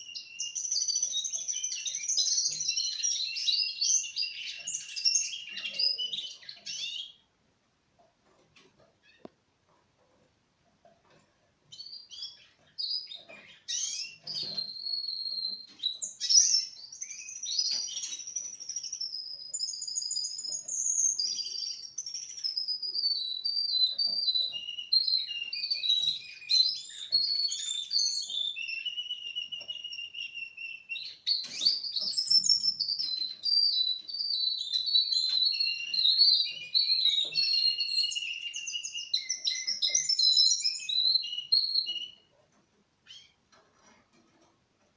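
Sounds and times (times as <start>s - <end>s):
canary singing trills: 0.0s - 7.4s, 8.0s - 10.2s, 10.8s - 44.6s.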